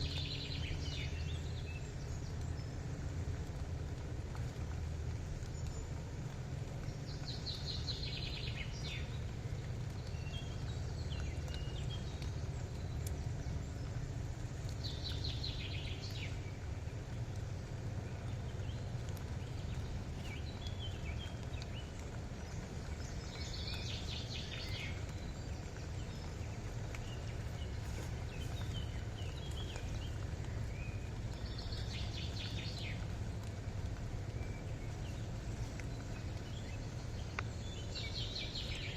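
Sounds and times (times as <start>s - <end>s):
low outdoor rumble: 0.0s - 38.9s
soft bird chirps: 4.3s - 38.9s.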